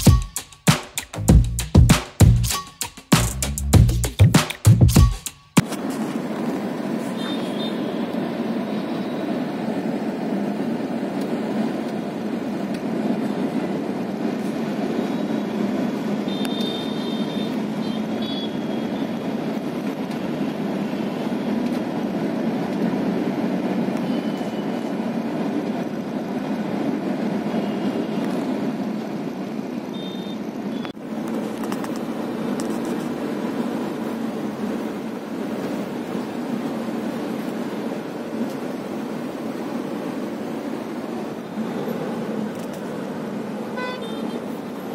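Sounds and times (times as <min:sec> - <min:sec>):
car engine and tyres rumbling: 0:05.5 - 0:44.9.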